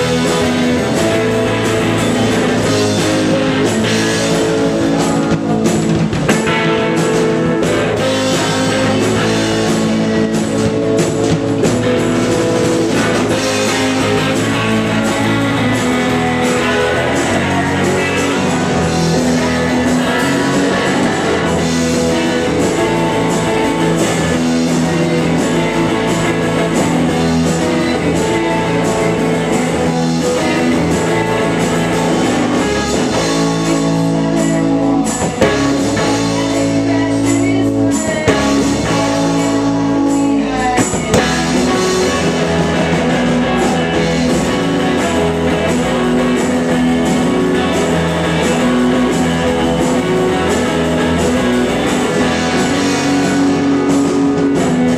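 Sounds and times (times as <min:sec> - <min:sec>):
bass guitar: 0:00.0 - 0:54.9
drum kit: 0:00.0 - 0:54.9
electric guitar: 0:00.0 - 0:54.9.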